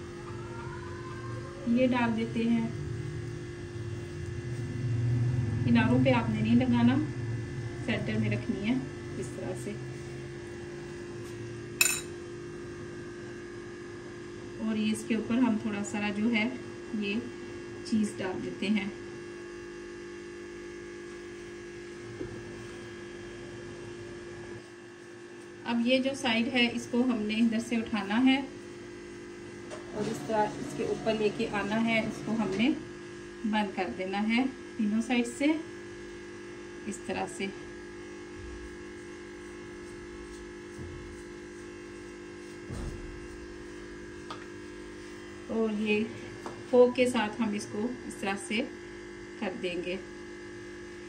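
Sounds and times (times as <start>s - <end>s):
steady electrical hum: 0.0s - 51.0s.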